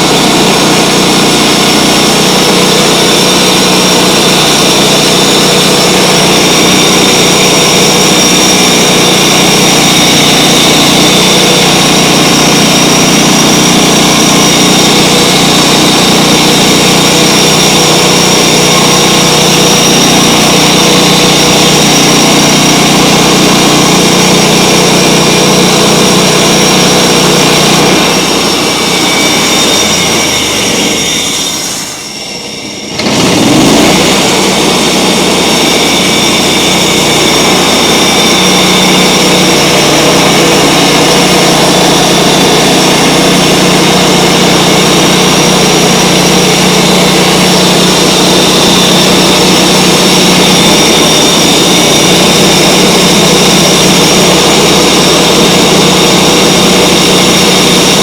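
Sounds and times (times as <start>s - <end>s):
sawmill gasoline engine running: 0.0s - 58.0s.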